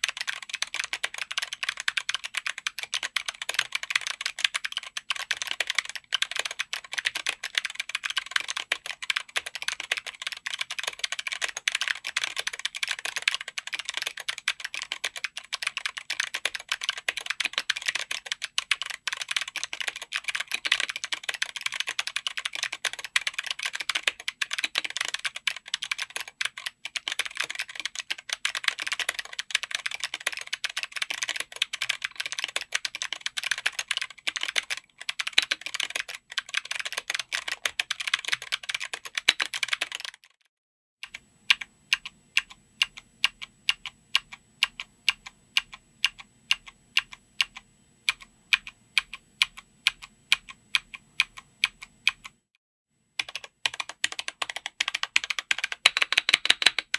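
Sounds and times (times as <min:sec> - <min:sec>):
typing on mechanical keyboard: 0:00.0 - 0:52.4, 0:53.2 - 0:56.9.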